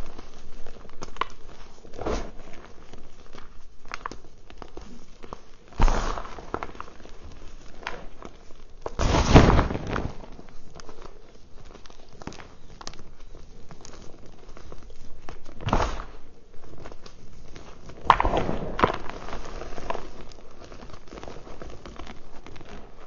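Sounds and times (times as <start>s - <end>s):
chalk crunching by hand: 0.9s - 23.0s.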